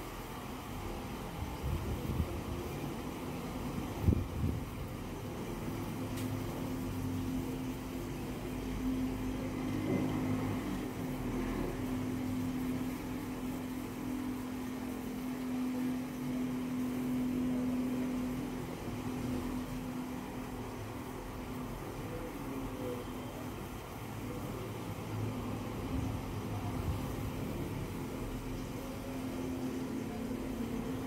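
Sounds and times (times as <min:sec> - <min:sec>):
machine hum and whir: 0:00.0 - 0:31.0.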